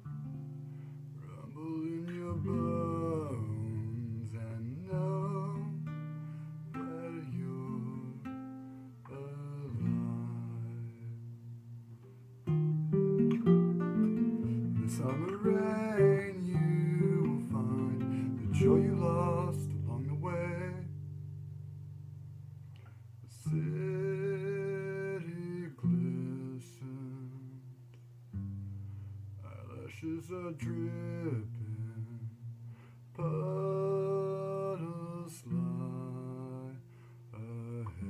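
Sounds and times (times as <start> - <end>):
acoustic guitar playing: 0.0 - 38.0
wordless vocal melody: 1.1 - 11.4, 13.2 - 21.2, 22.8 - 27.8, 29.4 - 38.0.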